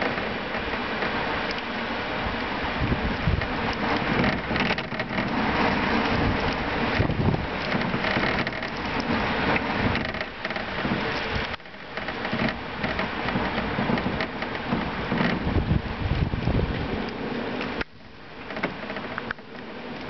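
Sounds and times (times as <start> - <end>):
heavy wind-driven rain: 0.0 - 20.0
wind gusts buffeting microphone: 0.0 - 20.0.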